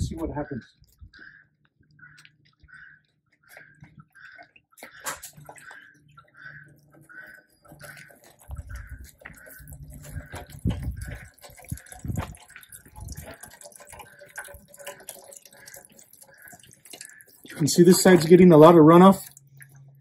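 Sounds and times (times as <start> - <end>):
water trickling into plastic trays: 0.0 - 20.0
water dripping onto soil: 0.8 - 20.0.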